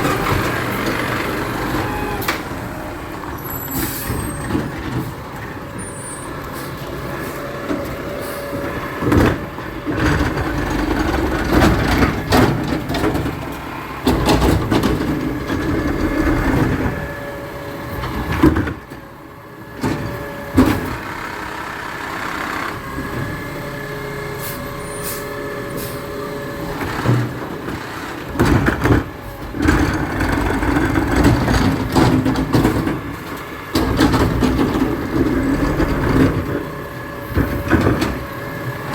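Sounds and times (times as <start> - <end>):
garbage truck whine: 0.0 - 38.9.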